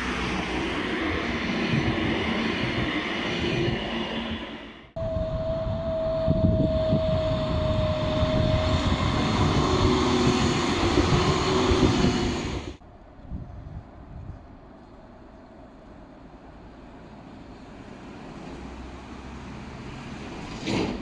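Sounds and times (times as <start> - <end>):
faint street background: 0.0 - 21.0
tram rumbling over rails: 0.0 - 21.0.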